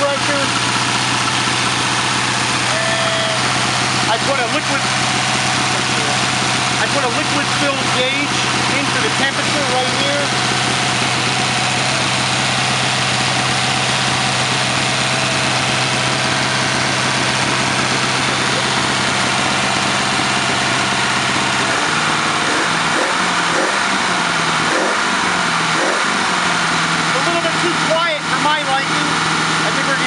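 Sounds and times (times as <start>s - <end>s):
car engine idling: 0.0s - 30.0s
engine revving unevenly: 0.0s - 30.0s.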